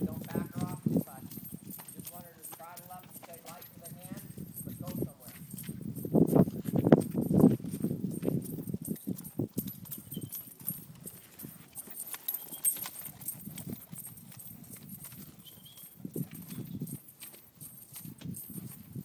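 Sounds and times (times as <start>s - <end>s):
horse hoofbeats on dirt: 0.0s - 19.0s.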